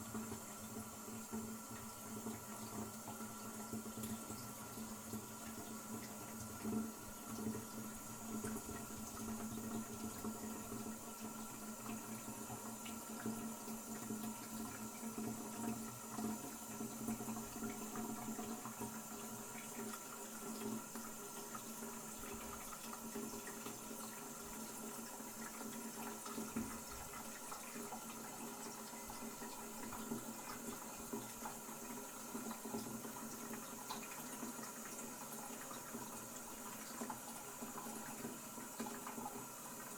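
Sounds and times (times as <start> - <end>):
water running into cistern: 0.0 - 39.9.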